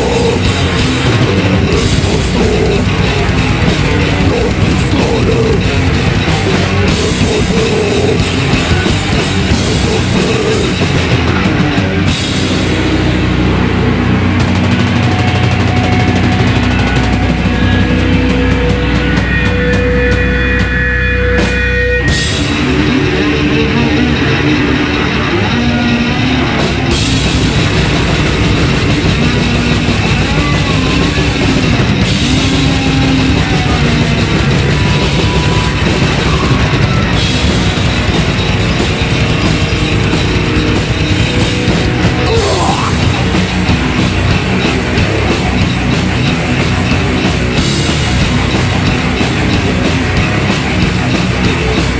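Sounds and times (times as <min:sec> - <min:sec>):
heavy metal band playing: 0:00.0 - 0:51.9.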